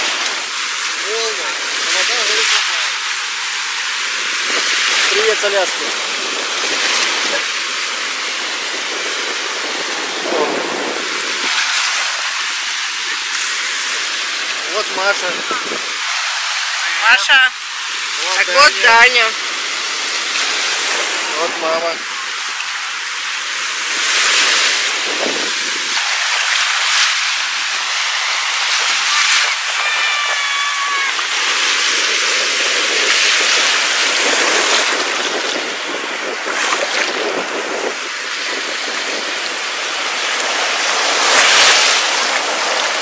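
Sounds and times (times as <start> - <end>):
surf washing in: 0.0 - 43.0.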